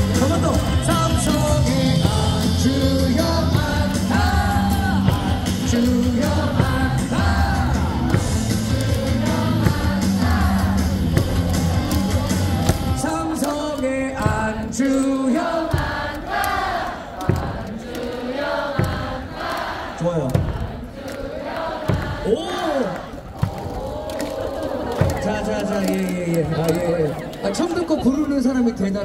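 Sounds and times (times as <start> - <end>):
cheer song with heavy beat: 0.0 - 27.1
crowd singing along: 0.0 - 28.0.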